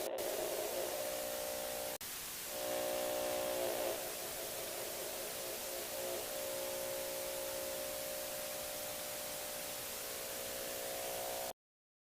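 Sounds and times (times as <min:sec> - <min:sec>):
droning chord: 0:00.0 - 0:11.5
static hiss: 0:00.0 - 0:11.5.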